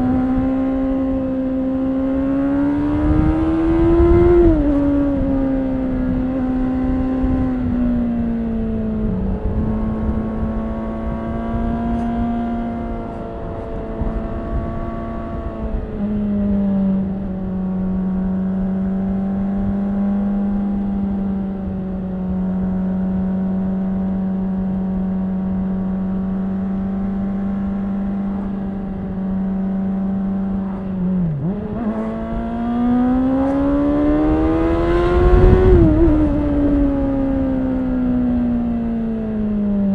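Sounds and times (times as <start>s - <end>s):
low road rumble: 0.0s - 39.9s
motorcycle engine running: 0.0s - 39.9s.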